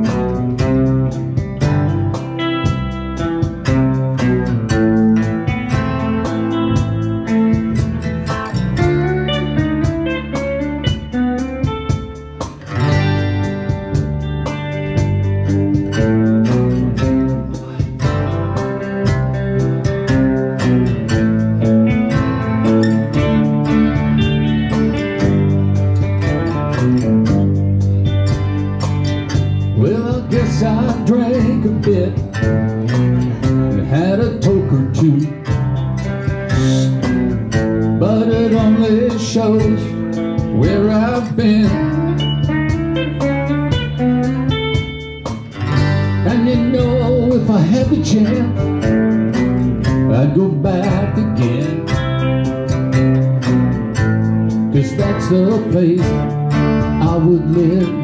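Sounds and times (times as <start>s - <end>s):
acoustic guitar strumming: 0.0s - 58.0s
lead guitar bending notes: 0.0s - 58.0s.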